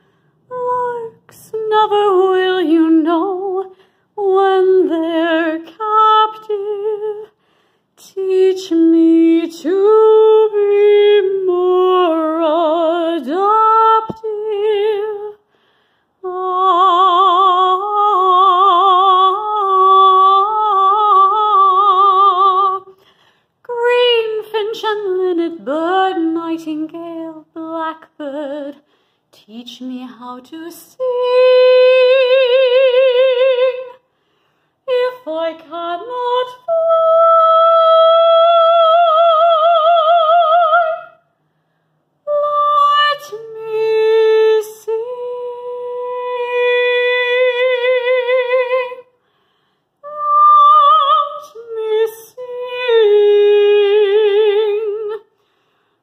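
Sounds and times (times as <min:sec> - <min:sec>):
woman singing a cappella: 0:00.0 - 0:15.6, 0:16.2 - 0:34.1, 0:34.8 - 0:41.3, 0:42.2 - 0:49.2, 0:50.0 - 0:55.5.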